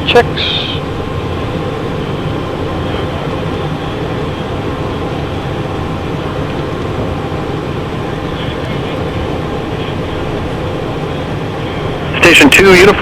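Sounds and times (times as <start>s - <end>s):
jet cockpit airflow and fan noise: 0.0s - 13.0s.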